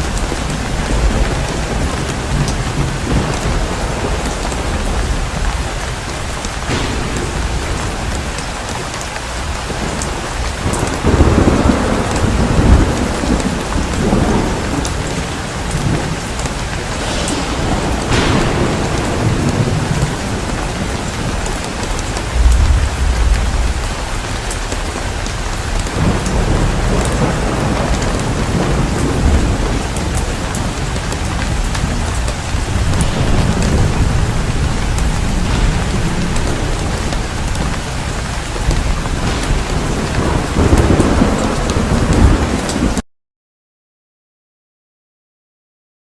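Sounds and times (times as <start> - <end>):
steady rain: 0.0 - 43.0
thunder rumbling: 0.0 - 43.0.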